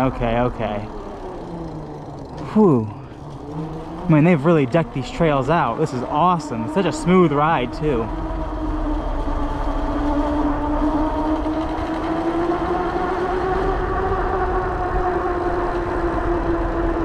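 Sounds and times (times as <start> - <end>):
e-bike drive whine: 0.0 - 17.0
low rumble: 0.0 - 17.0.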